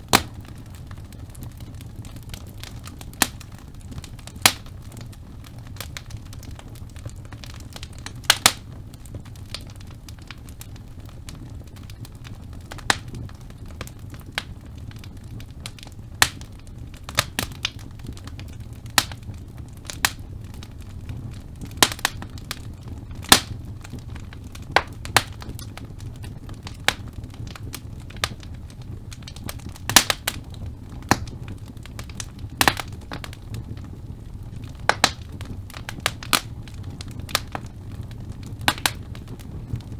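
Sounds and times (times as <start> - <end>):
burning logs popping and crackling: 0.0 - 39.9
fire flames rumbling: 0.0 - 39.9.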